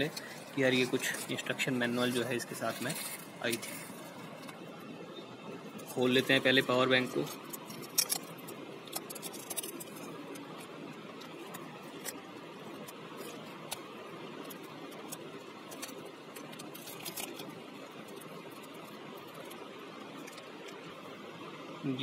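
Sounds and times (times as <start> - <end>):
plastic wrap crinkling: 0.0 - 4.7, 5.8 - 21.1
steady background hiss: 0.0 - 22.0.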